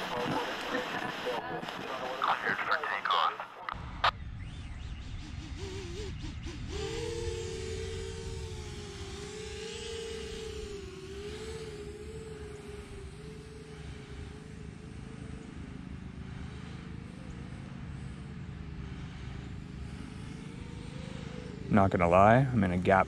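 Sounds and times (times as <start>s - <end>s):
drone motors whining: 3.2s - 23.0s.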